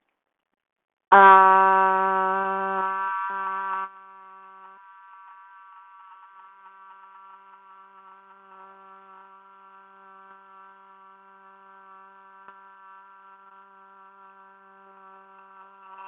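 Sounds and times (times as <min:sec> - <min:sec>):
faint low drone: 0:01.4 - 0:16.0.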